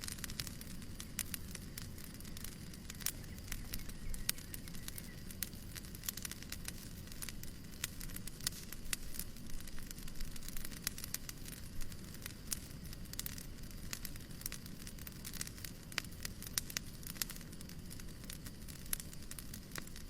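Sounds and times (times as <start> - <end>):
fireplace crackling: 0.0 - 20.0.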